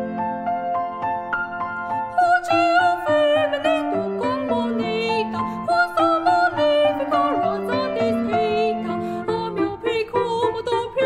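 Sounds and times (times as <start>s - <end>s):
grand piano: 0.0s - 11.0s
woman singing classical style: 2.0s - 11.0s.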